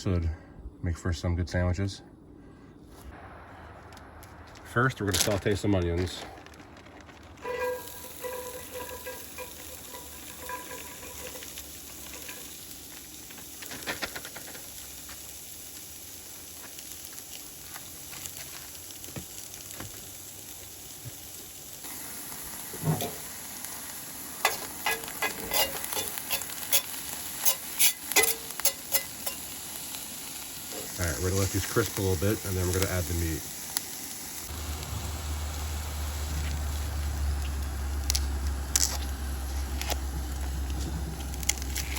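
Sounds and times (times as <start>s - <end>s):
sharp crackles and clicks: 3.0s - 41.9s
onions sizzling in a skillet: 7.4s - 41.9s.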